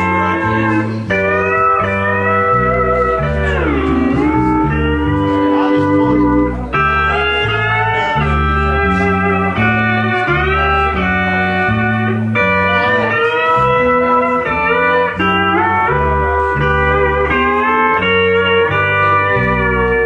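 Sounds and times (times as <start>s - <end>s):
bass line: 0.0s - 20.0s
pedal steel guitar chords: 0.0s - 20.0s.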